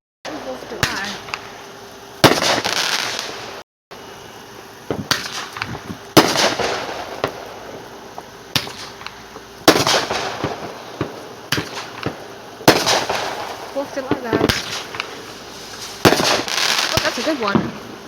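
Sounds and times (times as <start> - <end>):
fireworks bangs: 0.3 - 3.6, 4.8 - 18.0
fireworks crackling: 0.3 - 18.0.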